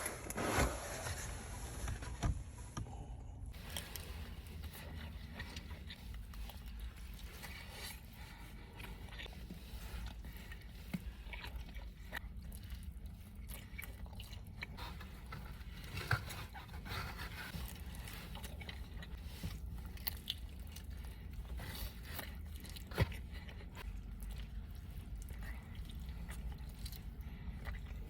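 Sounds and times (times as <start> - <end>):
chewing and biting pizza: 3.5 - 28.0.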